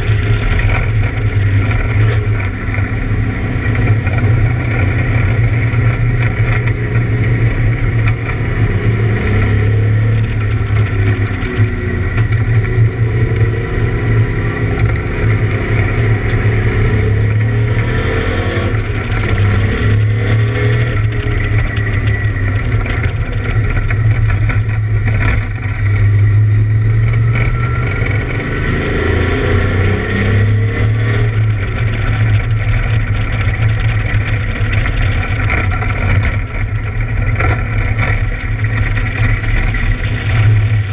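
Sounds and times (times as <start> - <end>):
race car engine revving with misfire: 0.0 - 40.9.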